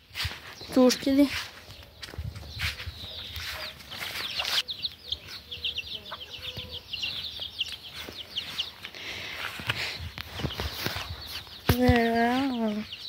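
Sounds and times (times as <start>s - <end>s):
chicks and ducklings peeping: 0.2s - 13.0s.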